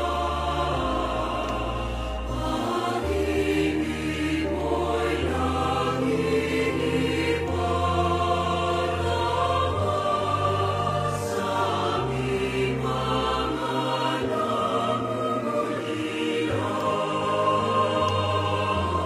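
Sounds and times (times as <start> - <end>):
choir singing held notes: 0.0 - 19.0.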